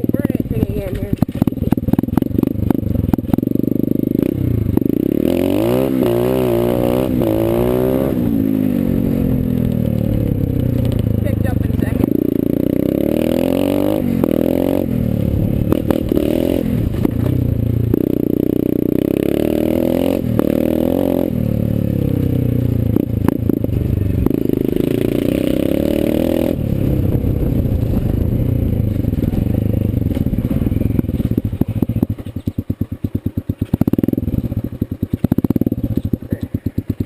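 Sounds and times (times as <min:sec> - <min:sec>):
pit bike engine revving: 0:00.0 - 0:37.0.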